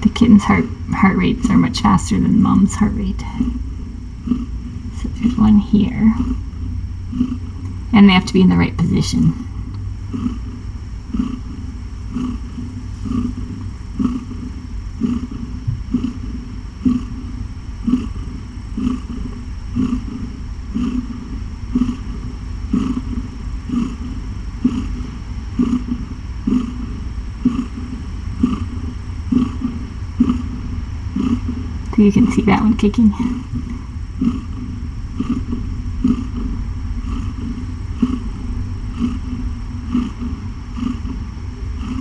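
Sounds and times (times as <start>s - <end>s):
cat purring through stethoscope: 0.0s - 42.0s
heartbeat pulse: 0.0s - 42.0s.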